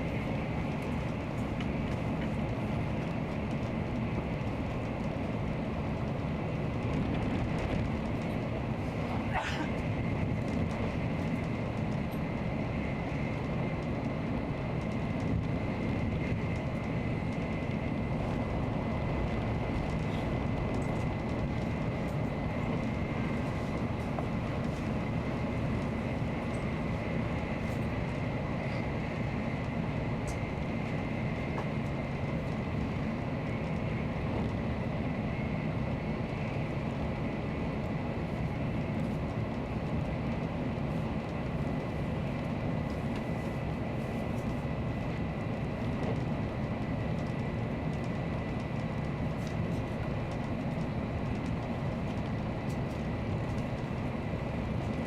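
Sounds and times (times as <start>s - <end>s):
bullet train running at speed: 0.0s - 55.0s.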